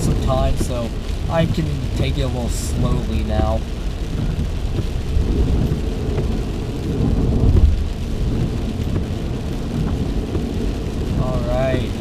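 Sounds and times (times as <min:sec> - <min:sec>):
deep steady rumble: 0:00.0 - 0:12.0
heavy rain on a car: 0:00.0 - 0:12.0.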